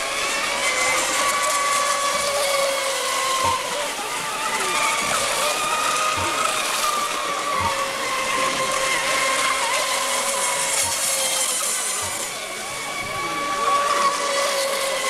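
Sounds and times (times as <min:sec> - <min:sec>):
boat motors whining: 0:00.0 - 0:15.0
spray hissing off hulls: 0:00.0 - 0:15.0.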